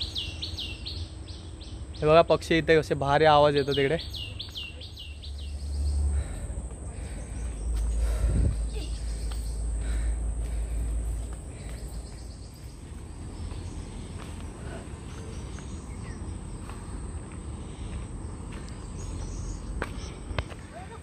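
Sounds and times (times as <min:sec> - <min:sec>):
forest birds calling: 0:00.0 - 0:21.0
insects chirping: 0:00.0 - 0:21.0.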